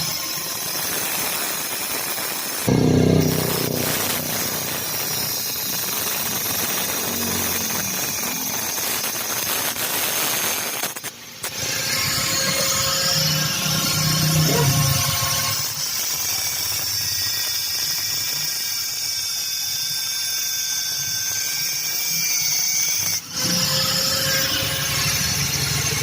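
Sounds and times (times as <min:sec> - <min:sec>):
power tool cutting metal pipe: 0:00.0 - 0:26.0.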